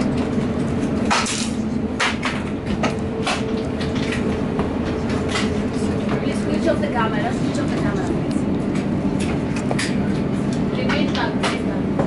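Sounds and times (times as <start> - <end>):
airliner cabin rumble and hum: 0.0 - 12.0.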